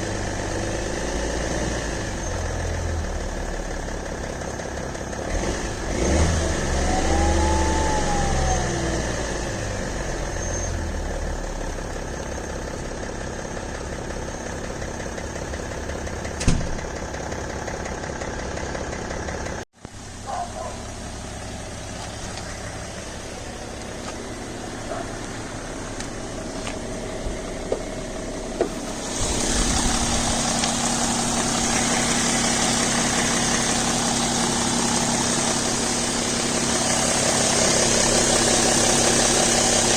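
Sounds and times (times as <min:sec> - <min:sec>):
diesel engine idling and revving: 0:00.0 - 0:39.9
engine ticking: 0:02.0 - 0:39.9.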